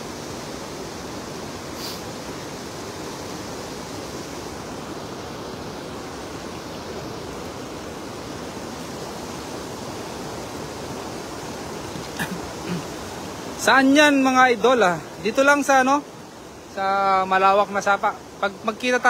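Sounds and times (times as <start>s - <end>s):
river flowing over stones: 0.0s - 19.0s.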